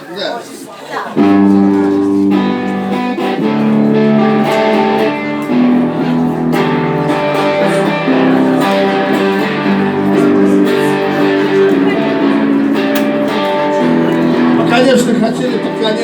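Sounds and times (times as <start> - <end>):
guitar playing chords: 1.2 - 16.0.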